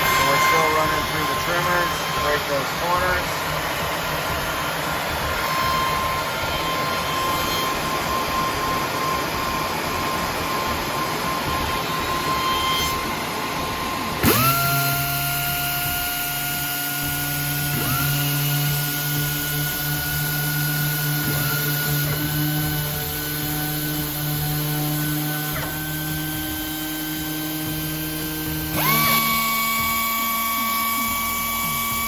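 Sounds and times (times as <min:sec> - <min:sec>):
motor spinning up with whine: 0:00.0 - 0:32.0
sanding machine running: 0:00.0 - 0:32.0.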